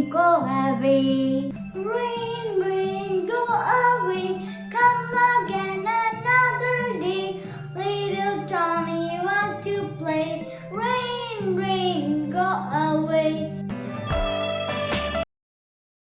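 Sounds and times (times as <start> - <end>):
child singing: 0.0 - 13.5
children's song backing track: 0.0 - 15.2.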